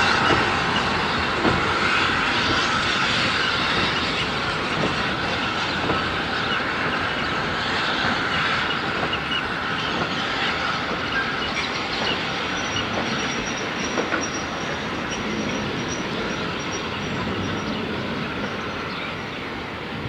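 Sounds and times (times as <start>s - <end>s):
wheels clicking over rail joints: 0.0s - 18.5s
high wheel squeal: 0.0s - 19.7s
train rumbling past: 0.0s - 20.0s.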